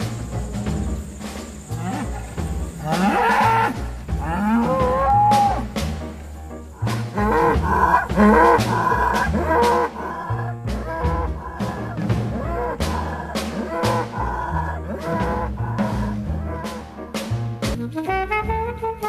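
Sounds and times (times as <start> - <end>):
bulls bellowing: 0.0 - 17.8
jazz music with steady beat: 0.0 - 19.0.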